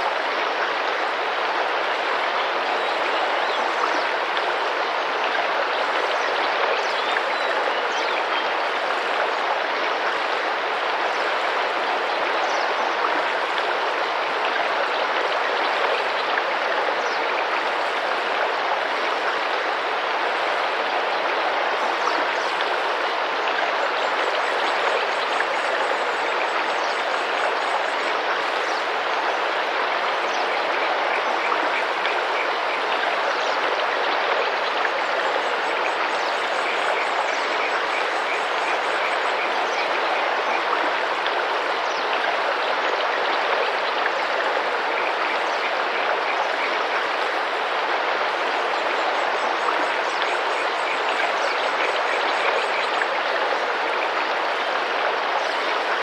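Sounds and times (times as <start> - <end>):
river running and splashing: 0.0 - 56.0.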